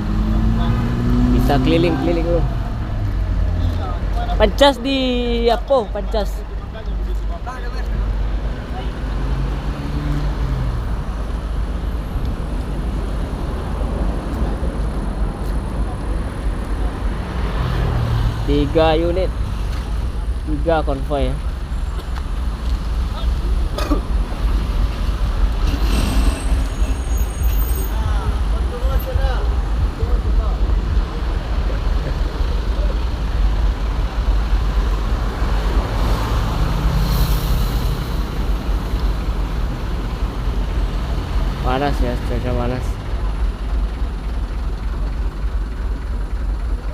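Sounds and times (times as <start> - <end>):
heavy truck engine rumble: 0.0 - 46.9
road and wind noise hiss: 0.0 - 46.9.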